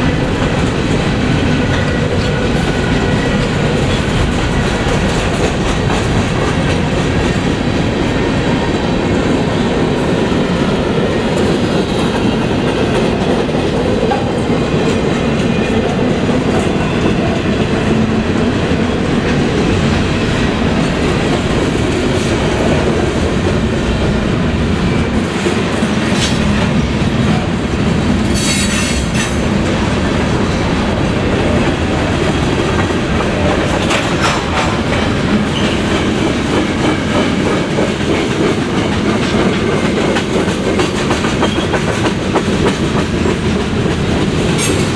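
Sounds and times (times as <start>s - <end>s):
train wheels clattering on rails: 0.0s - 44.9s.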